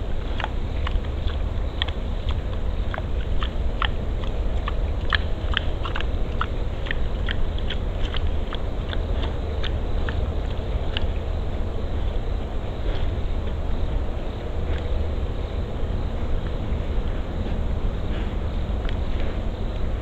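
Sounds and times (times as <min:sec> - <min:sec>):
boar crunching feed: 0:00.0 - 0:20.0
low background rumble: 0:00.0 - 0:20.0.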